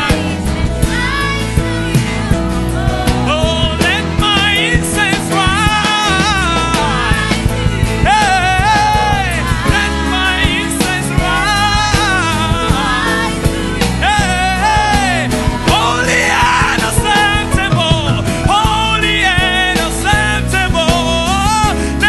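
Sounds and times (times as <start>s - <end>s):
lead singer vocal runs: 0.0s - 22.0s
worship band playing: 0.0s - 22.0s.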